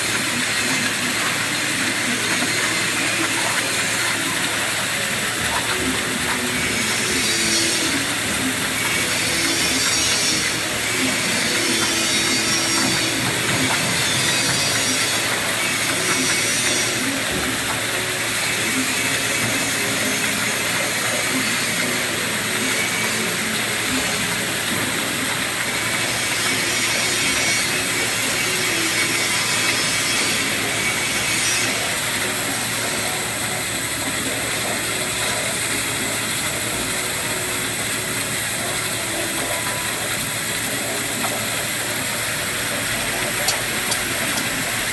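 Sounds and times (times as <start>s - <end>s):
waterjet cutter hissing: 0.0s - 44.9s.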